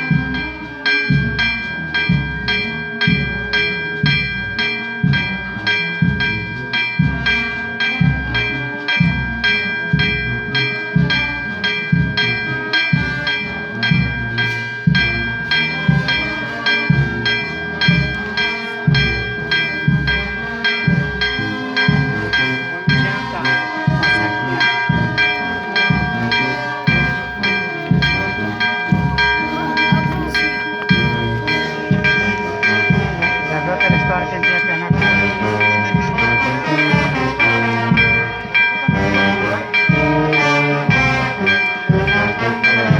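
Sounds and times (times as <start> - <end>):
church bells ringing rapidly: 0.0 - 42.9.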